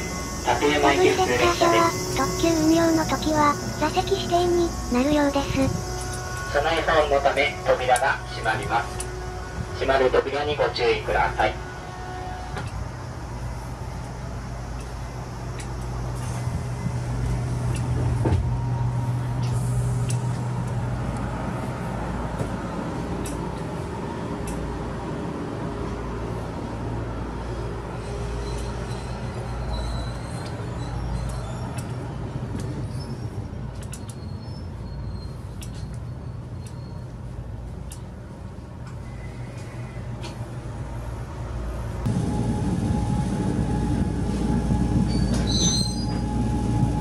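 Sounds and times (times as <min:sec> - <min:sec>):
electric train hum: 0:00.0 - 0:47.0.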